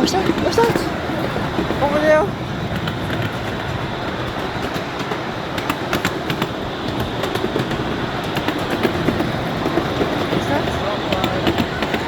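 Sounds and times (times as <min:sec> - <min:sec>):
miniature train rumbling on track: 0:00.0 - 0:12.0
wheels clicking over rails: 0:00.0 - 0:12.0.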